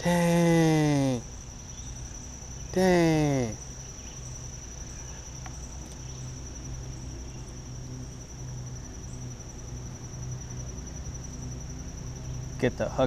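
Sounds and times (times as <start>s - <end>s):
insect high-pitched trill: 0.0s - 13.0s.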